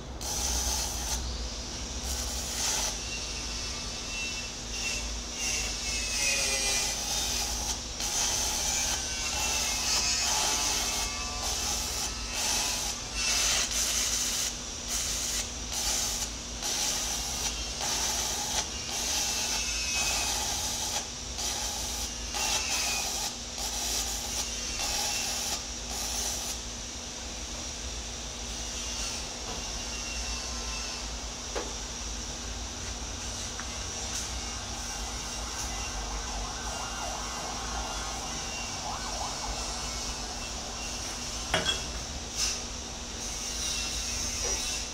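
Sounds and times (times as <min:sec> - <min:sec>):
arc welding crackle: 0:00.0 - 0:26.8, 0:31.8 - 0:44.9.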